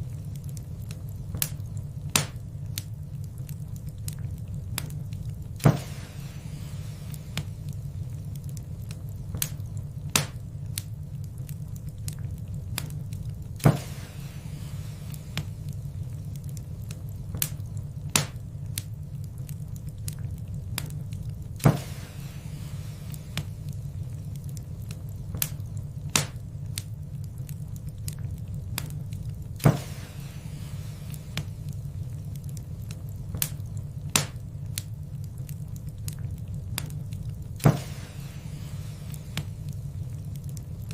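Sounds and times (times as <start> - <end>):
low roar of fire: 0.0 - 40.9
wood fire crackling: 0.0 - 40.9.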